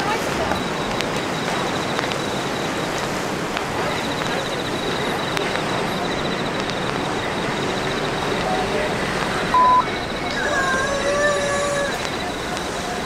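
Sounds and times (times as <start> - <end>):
faint high-pitched ticking: 0.0 - 13.0
sea surf breaking: 0.0 - 13.0.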